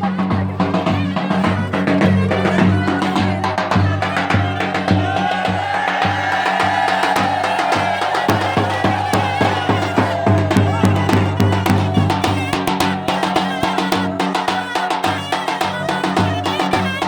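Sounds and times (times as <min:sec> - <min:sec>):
steady drum beats: 0:00.0 - 0:17.0
wavering reedy melody: 0:00.0 - 0:17.0.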